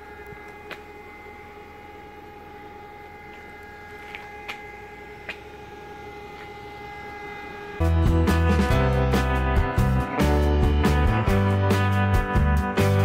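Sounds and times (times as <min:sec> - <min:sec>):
steady pitched hum: 0:00.0 - 0:12.3.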